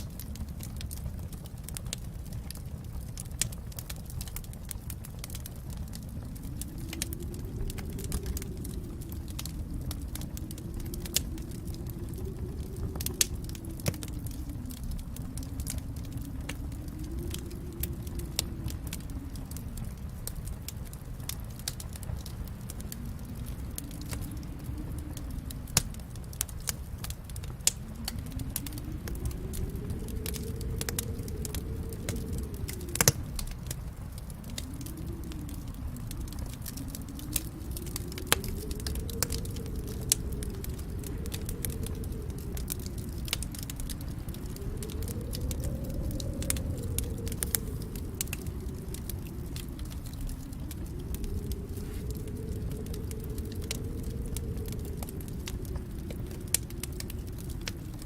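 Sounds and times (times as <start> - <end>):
fire snaps and pops: 0.0 - 58.0
low rumble of flames: 0.0 - 58.0.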